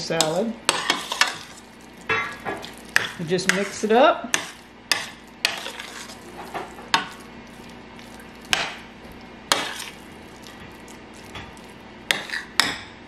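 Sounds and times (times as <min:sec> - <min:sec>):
spoon stirring potato salad: 0:00.0 - 0:12.9.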